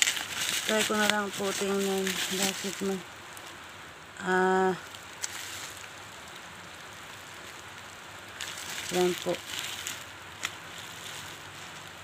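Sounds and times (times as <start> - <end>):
bubble wrap crinkling: 0.0 - 3.6, 4.5 - 12.0.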